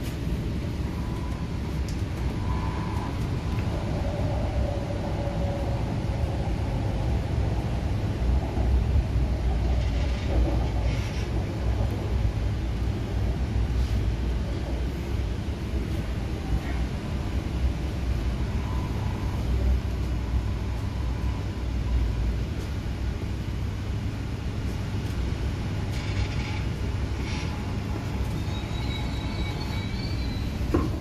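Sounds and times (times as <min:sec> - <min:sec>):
faint high whine of train: 0:00.0 - 0:31.0
train running rumble: 0:00.0 - 0:31.0.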